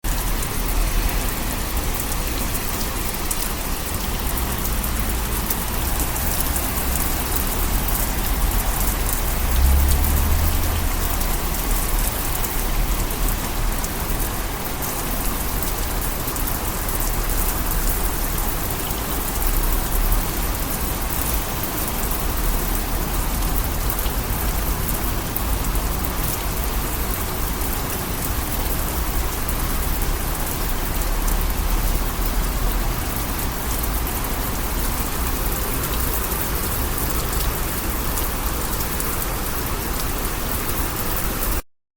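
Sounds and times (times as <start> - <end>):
heavy rain falling: 0.0 - 41.6.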